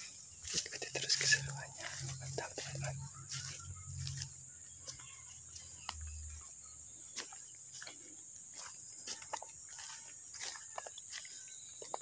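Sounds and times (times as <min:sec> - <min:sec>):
footsteps crunching on dry leaves: 0:00.0 - 0:12.0
insects droning: 0:00.0 - 0:12.0.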